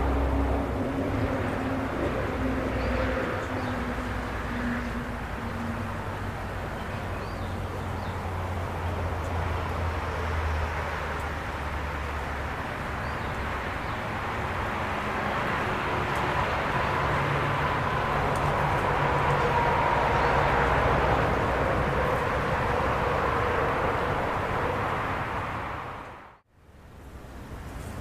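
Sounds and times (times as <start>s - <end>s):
distant vehicle passing: 0.0s - 26.4s.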